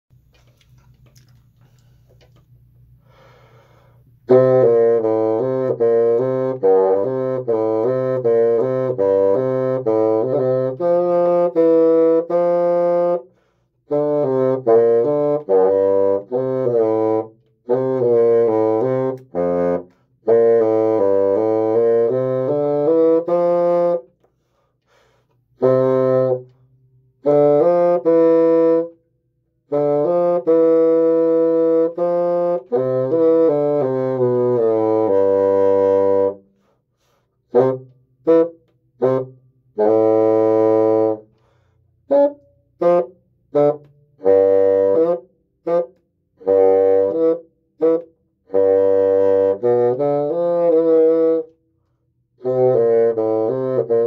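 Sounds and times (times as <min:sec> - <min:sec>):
solo bassoon melody: 0:02.2 - 0:54.0.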